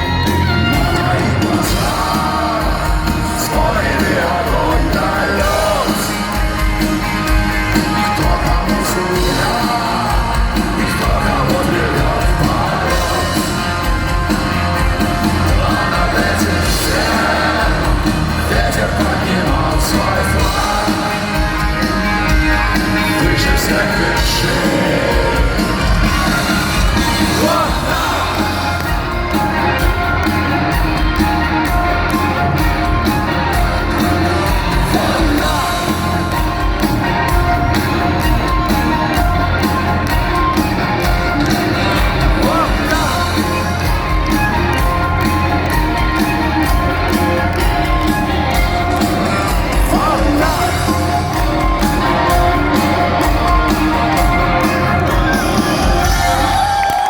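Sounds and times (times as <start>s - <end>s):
crowd shouting: 0.0s - 57.0s
live rock band playing: 0.0s - 57.0s
person singing: 0.0s - 57.0s.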